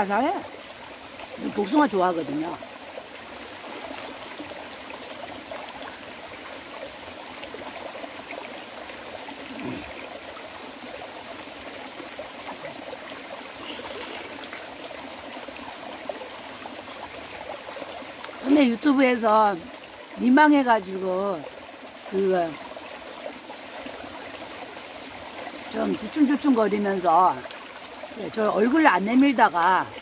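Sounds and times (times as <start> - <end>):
stream running over rocks: 0.0 - 30.0.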